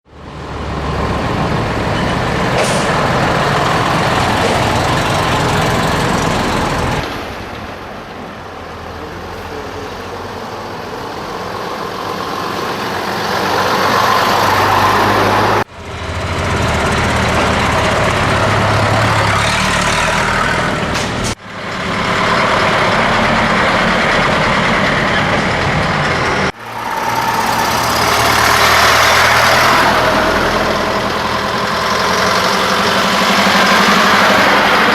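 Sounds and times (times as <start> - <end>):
truck diesel engine running: 0.1 - 34.9.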